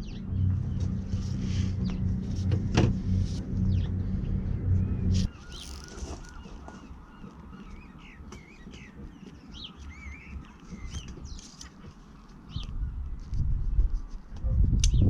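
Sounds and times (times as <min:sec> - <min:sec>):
small birds chirping: 0:00.0 - 0:13.4
low background rumble: 0:00.0 - 0:13.9.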